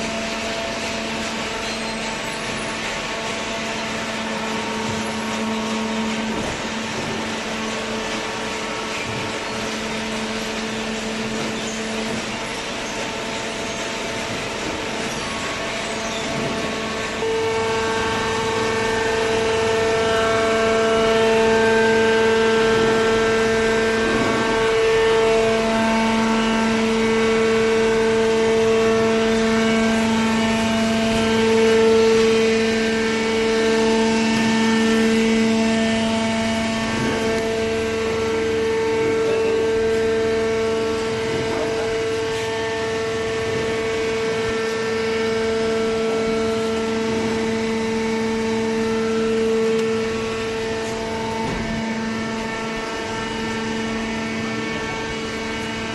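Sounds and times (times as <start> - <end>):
hydraulic baler humming: 0.0 - 55.9.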